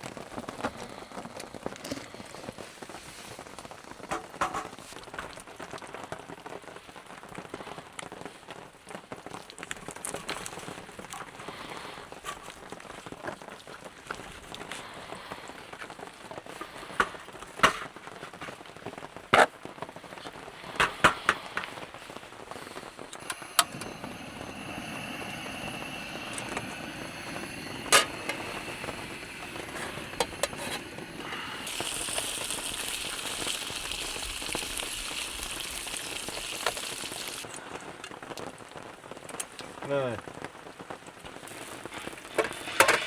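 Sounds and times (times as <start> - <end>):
rain falling: 0.0 - 43.0
raindrops ticking close by: 0.0 - 43.0.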